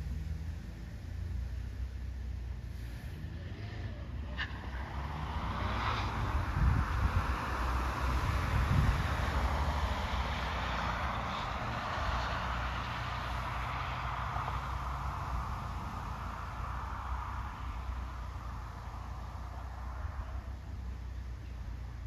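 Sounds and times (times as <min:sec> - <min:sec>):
distant race car engines: 0:00.0 - 0:22.0.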